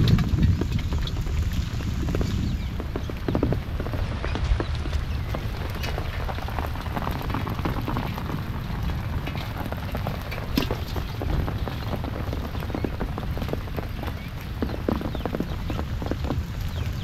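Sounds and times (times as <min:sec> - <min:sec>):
low rumble: 0:00.0 - 0:17.0
rain falling on grass and water: 0:00.0 - 0:17.0.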